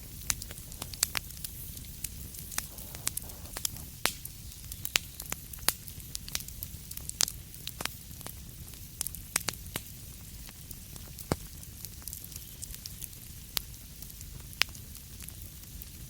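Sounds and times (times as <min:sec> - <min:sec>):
wood fire crackling in fireplace: 0:00.0 - 0:16.0.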